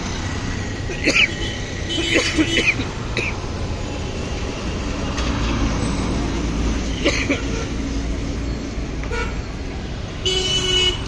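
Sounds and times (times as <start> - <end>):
road traffic rumbling: 0.0 - 11.0.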